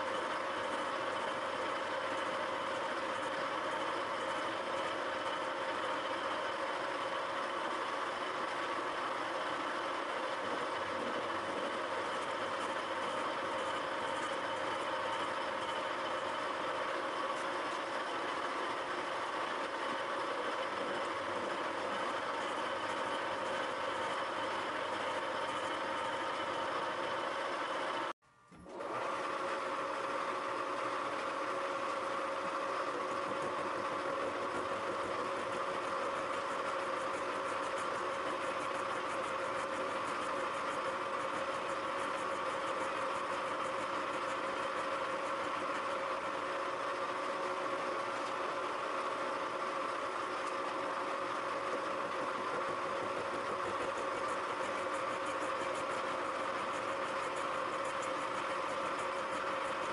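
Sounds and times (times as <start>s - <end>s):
milling machine humming and whining: 0.0s - 59.9s.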